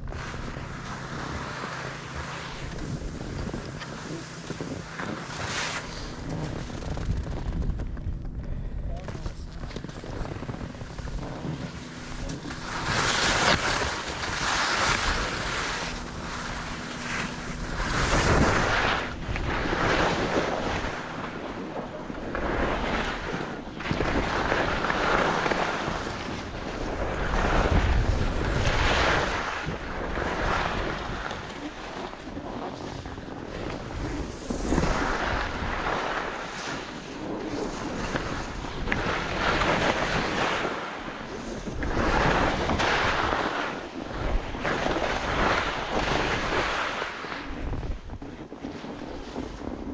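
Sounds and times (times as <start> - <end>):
wind buffeting microphone: 0.0 - 49.9
skis scraping on packed snow: 0.1 - 7.8, 9.0 - 49.9.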